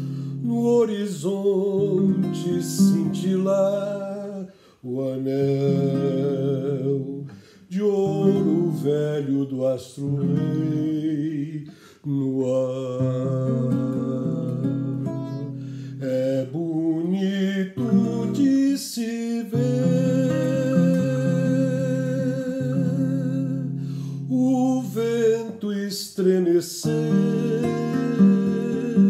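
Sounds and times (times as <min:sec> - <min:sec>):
acoustic guitar chords: 0:00.0 - 0:29.0
man singing: 0:00.0 - 0:29.0.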